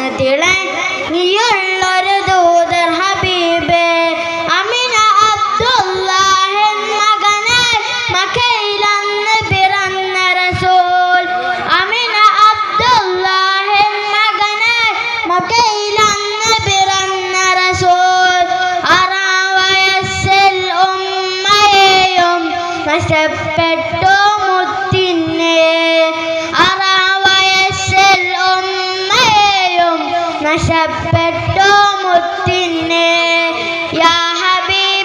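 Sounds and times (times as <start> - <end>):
boy singing into microphone: 0.0 - 35.0.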